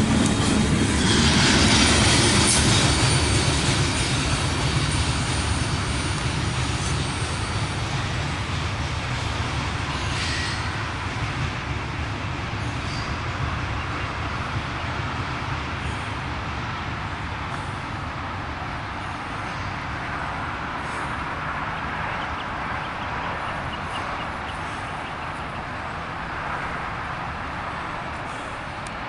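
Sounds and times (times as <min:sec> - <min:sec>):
train rolling on rails: 0:00.0 - 0:29.0.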